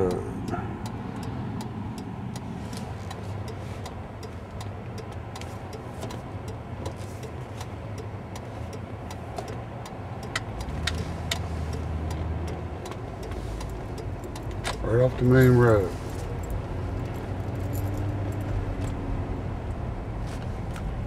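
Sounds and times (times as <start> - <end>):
car engine and road hum: 0.0 - 21.0
turn signal clicking: 0.0 - 21.0.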